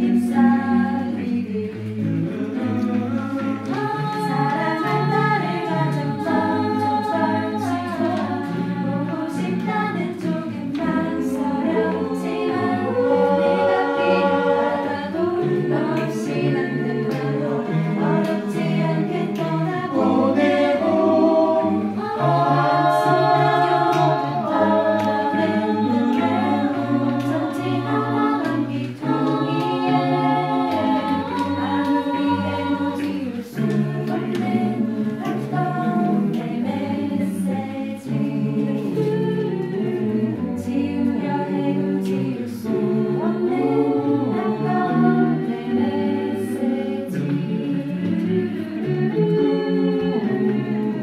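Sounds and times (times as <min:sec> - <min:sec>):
choir singing a cappella: 0:00.0 - 0:51.0.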